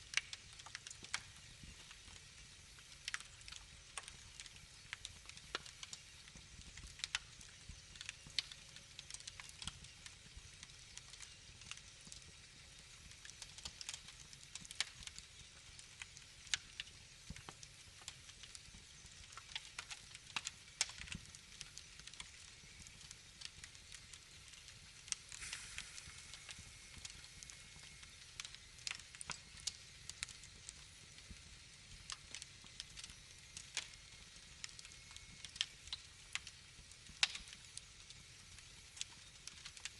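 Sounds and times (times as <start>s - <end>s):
sharp pops and snaps: 0.0s - 39.9s
wood fire crackling: 0.0s - 39.9s.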